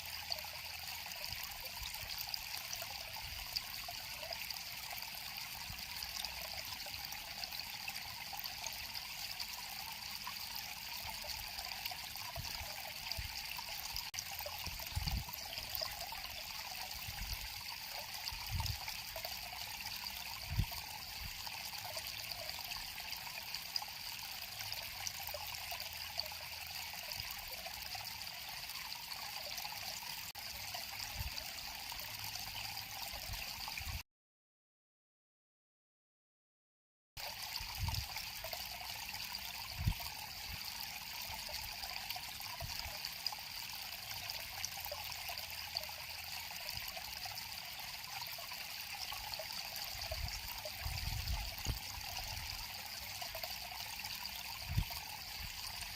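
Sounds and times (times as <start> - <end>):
river water flowing: 0.0 - 33.8, 37.2 - 55.9.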